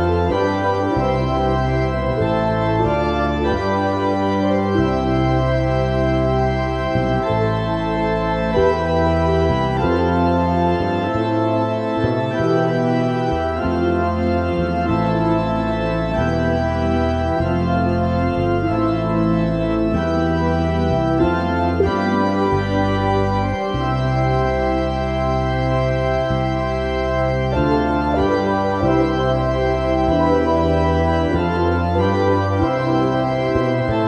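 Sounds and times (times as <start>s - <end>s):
slow organ-like keyboard chords: 0.0s - 34.0s.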